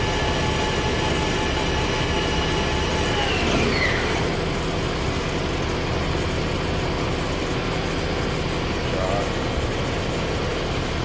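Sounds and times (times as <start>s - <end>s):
machine spindle whining: 0.0s - 11.0s
pumps and motors humming: 0.0s - 11.0s.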